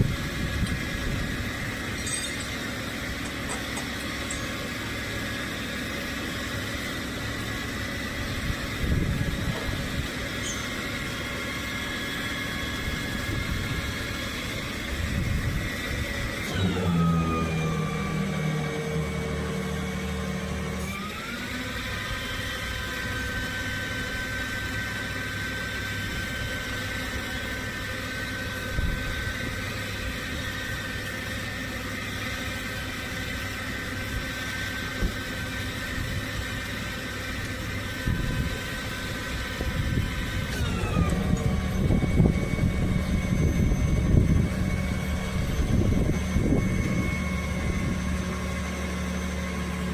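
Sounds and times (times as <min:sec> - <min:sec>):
tow truck engine with mechanical whine: 0:00.0 - 0:49.9.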